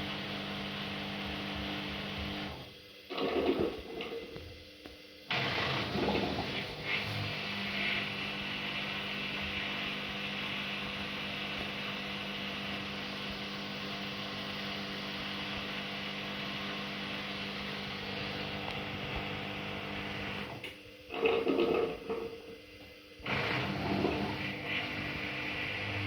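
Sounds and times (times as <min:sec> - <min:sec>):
washing machine motor hum: 0:00.0 - 0:04.6, 0:05.3 - 0:26.0.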